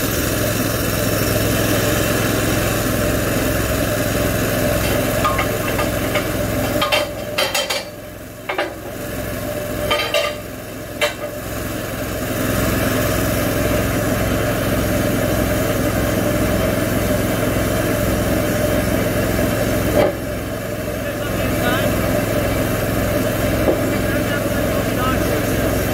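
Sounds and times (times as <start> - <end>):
small gas engine idling: 0.0 - 25.9.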